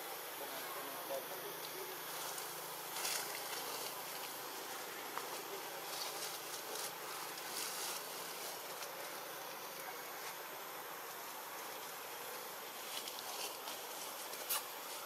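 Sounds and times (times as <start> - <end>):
insects buzzing: 0.0 - 15.0
faint clicks and rustles: 1.6 - 15.0.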